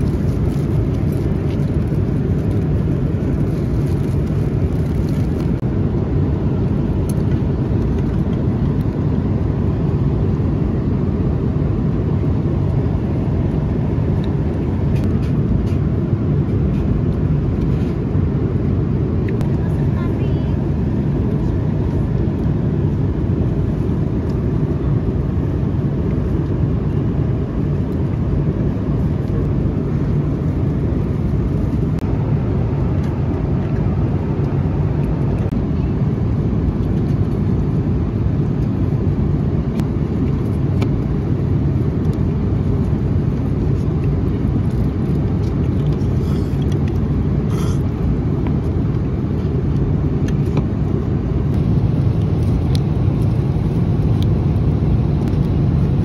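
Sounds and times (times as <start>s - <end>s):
vehicle rumble in motion: 0.0s - 56.0s.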